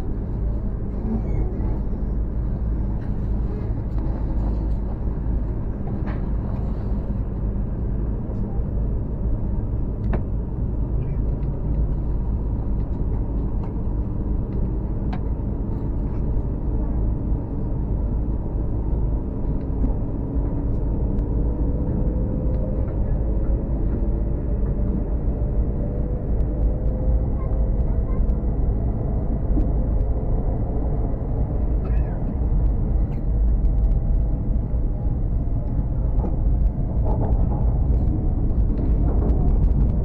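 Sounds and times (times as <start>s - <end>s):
train running rumble: 0.0s - 40.0s.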